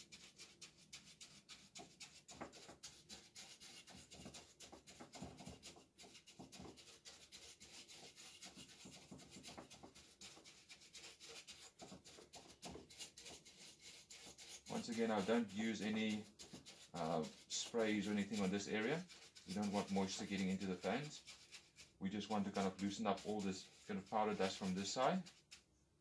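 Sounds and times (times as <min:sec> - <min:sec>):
paintbrush scrubbing dust: 0:00.0 - 0:25.7.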